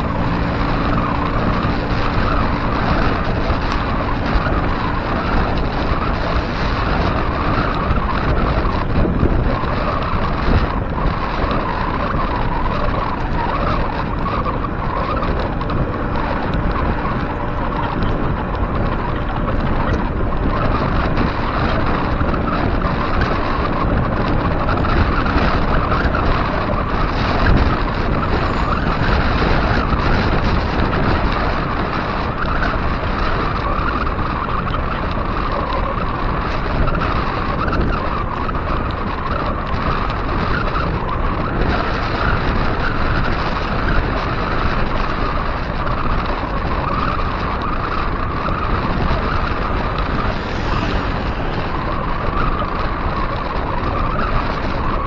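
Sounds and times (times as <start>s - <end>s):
tyres rolling on pavement: 0.0s - 55.0s
wind rushing over microphone: 0.0s - 55.0s.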